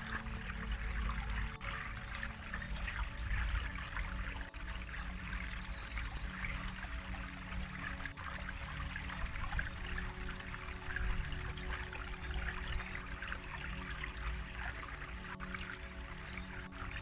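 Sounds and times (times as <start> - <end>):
low steady hum: 0.0 - 17.0
water trickling and babbling: 0.0 - 17.0.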